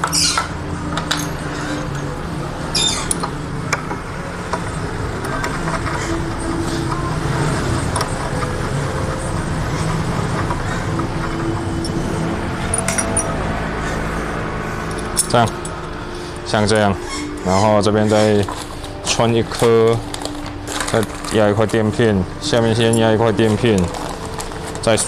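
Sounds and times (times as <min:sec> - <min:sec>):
low engine-like hum: 0:00.0 - 0:25.0.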